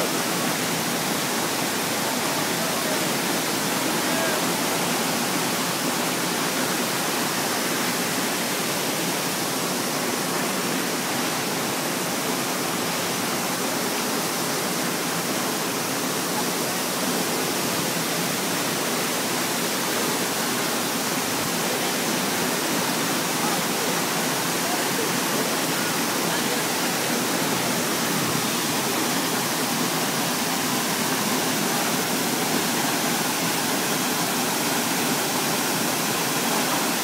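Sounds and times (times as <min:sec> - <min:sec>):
waterfall rushing over boulders: 0:00.0 - 0:37.0.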